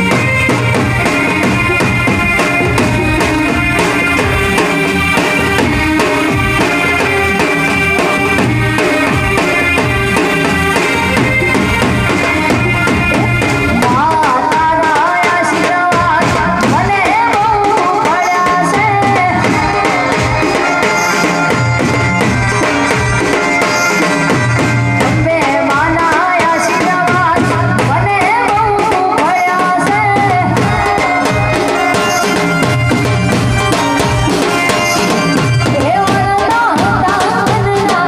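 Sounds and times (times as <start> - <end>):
folk music over sound system: 0.0 - 38.0.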